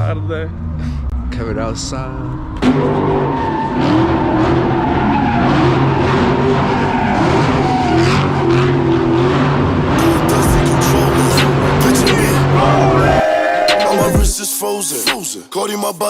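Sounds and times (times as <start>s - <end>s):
car engine running loudly: 0.0s - 13.2s.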